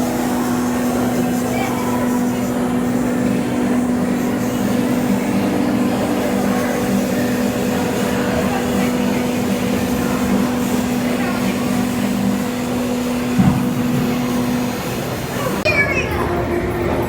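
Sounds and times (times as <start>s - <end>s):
loud machine hum: 0.0s - 17.0s.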